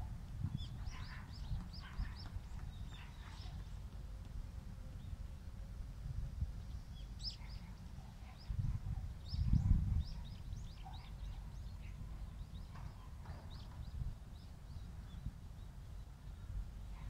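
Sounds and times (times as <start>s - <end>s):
small birds chirping: 0.0s - 5.7s, 6.4s - 17.0s.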